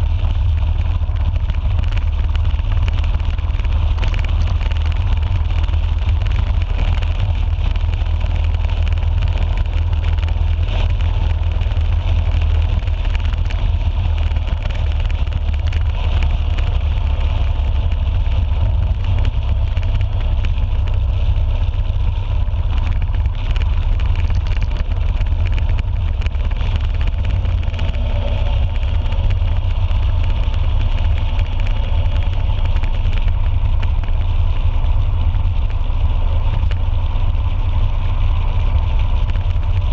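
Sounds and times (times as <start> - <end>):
motorcycle engine rumble: 0.0 - 39.9
wind rush on microphone: 0.0 - 39.9.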